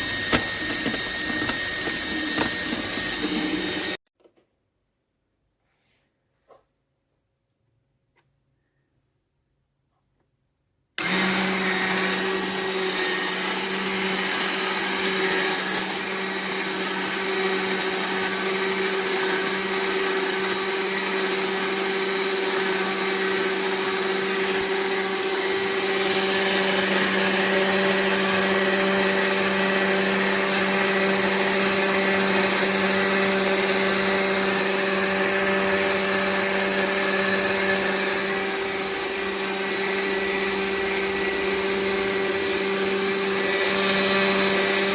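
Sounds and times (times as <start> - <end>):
juicer motor whirring: 0.0 - 4.0, 11.0 - 44.9.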